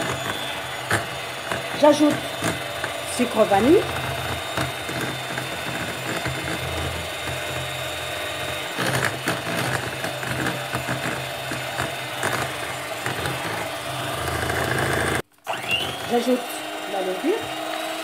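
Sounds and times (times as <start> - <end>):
beaters clicking and rattling: 0.0 - 15.2
electric hand mixer running: 0.0 - 18.0.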